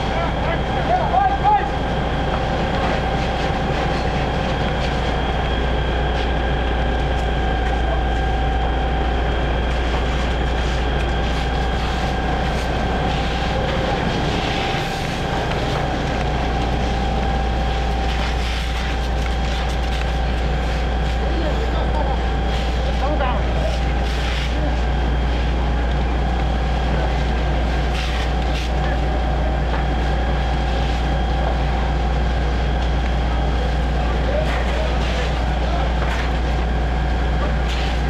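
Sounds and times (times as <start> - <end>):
constant whine: 0.0 - 38.0
fire engine pump rumbling: 0.0 - 38.0.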